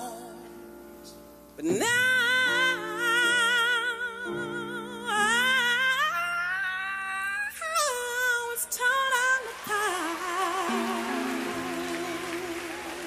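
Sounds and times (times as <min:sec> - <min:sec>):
person singing with vibrato: 0:00.0 - 0:13.0.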